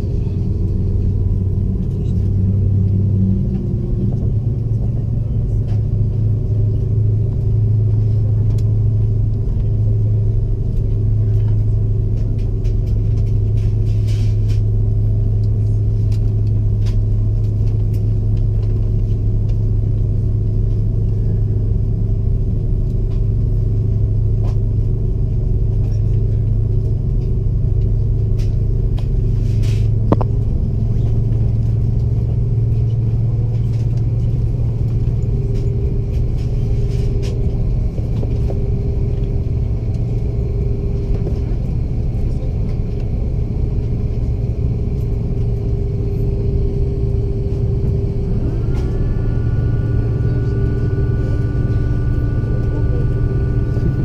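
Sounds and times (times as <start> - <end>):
aircraft cabin drone: 0.0 - 54.0.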